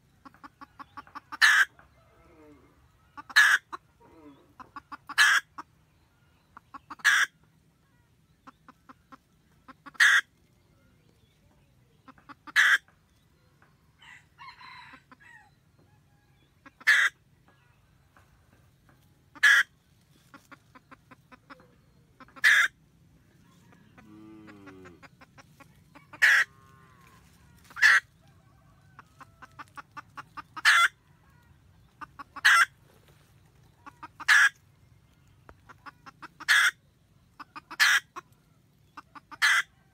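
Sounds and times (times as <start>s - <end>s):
hen clucking and cackling: 0.0s - 39.9s.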